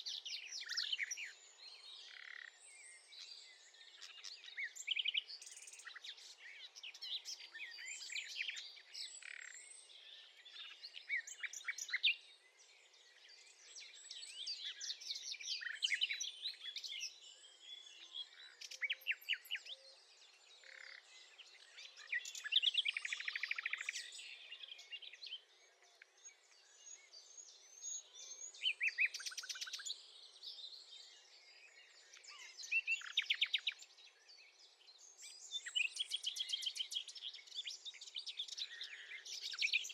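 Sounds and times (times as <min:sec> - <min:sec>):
nightingale singing: 0:00.0 - 0:09.6, 0:13.3 - 0:34.0, 0:34.7 - 0:39.9.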